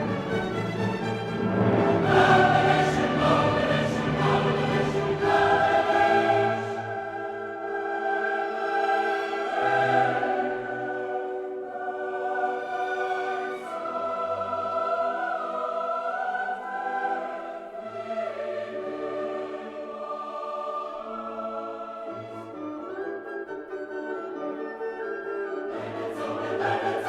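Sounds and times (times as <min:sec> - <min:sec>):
choir singing sustained chords: 0:00.0 - 0:24.4, 0:25.5 - 0:27.0.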